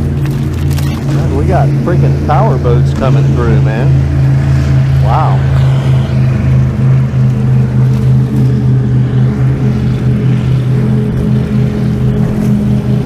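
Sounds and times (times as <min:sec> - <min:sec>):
powerboat engines droning: 0:00.0 - 0:13.0.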